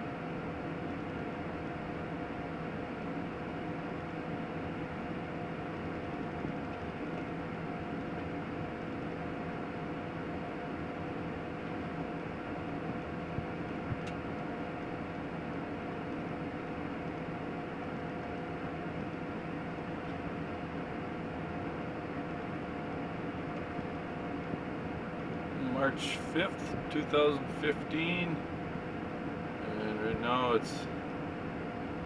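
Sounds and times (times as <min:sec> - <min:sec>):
engine drone: 0:03.5 - 0:32.0.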